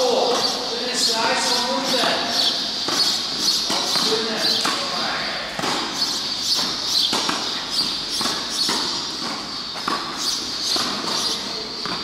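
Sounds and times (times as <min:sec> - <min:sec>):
shoes scuffing on clay court: 0:00.0 - 0:12.0
racket hitting tennis ball: 0:01.4 - 0:12.0.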